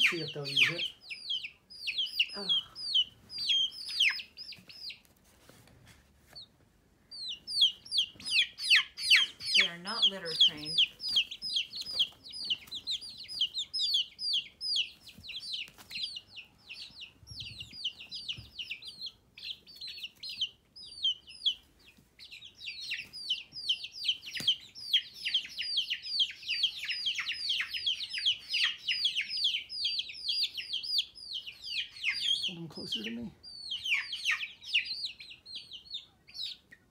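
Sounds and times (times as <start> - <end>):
baby chicks peeping: 0.0 - 36.9.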